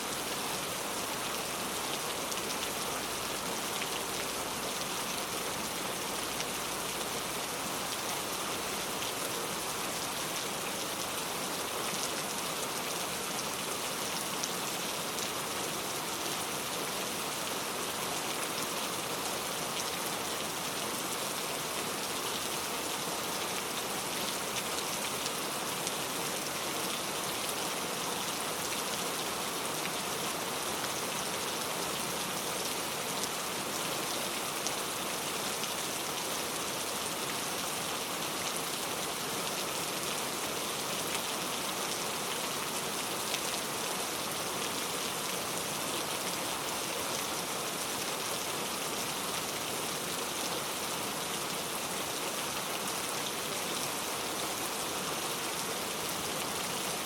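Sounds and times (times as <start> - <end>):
heavy rain on road: 0.1 - 57.0.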